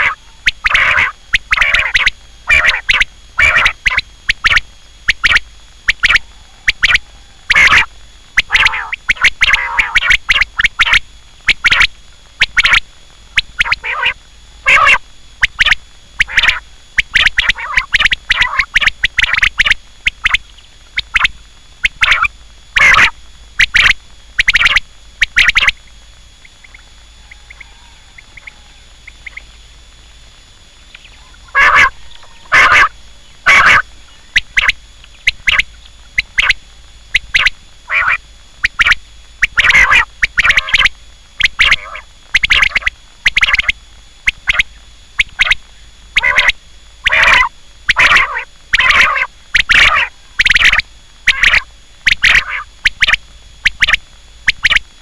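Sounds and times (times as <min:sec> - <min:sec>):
quail calling: 0:00.0 - 0:20.4, 0:21.0 - 0:25.8, 0:26.4 - 0:29.6, 0:30.9 - 0:54.8.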